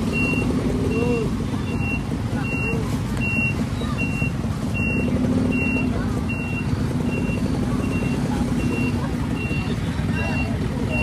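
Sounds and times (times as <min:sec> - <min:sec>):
truck engine rumble: 0:00.0 - 0:11.0
truck warning beeper: 0:00.0 - 0:11.0.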